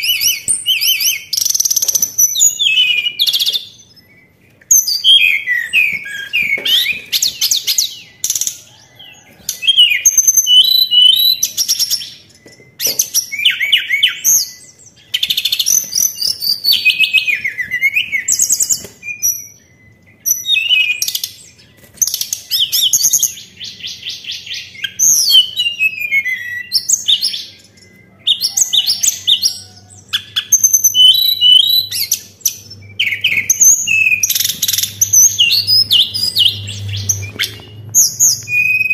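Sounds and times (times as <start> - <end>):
songbird singing whistles and trills: 0.0 - 38.9.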